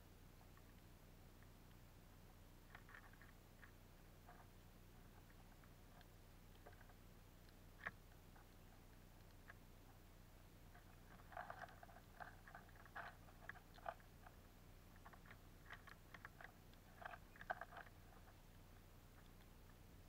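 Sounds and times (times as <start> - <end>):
low steady hum: 0.0 - 20.0
birds cracking seeds: 1.4 - 20.0.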